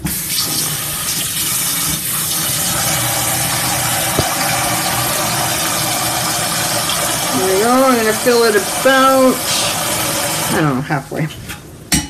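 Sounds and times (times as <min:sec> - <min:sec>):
tap water pouring into pot: 0:00.0 - 0:10.7.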